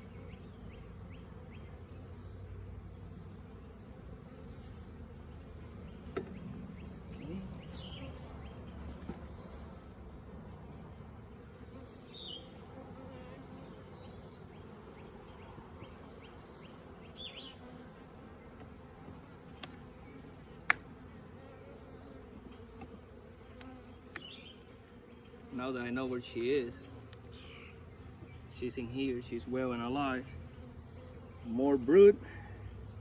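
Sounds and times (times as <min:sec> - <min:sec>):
honeybees buzzing: 0:00.0 - 0:33.0.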